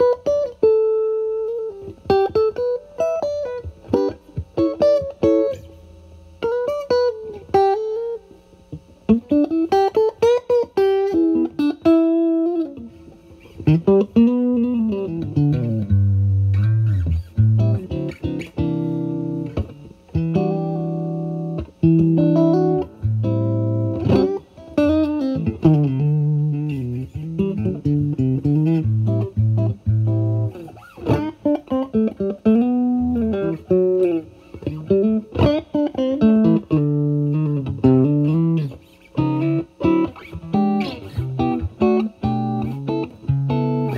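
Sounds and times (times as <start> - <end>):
overdriven electric guitar lead: 0.0 - 43.9.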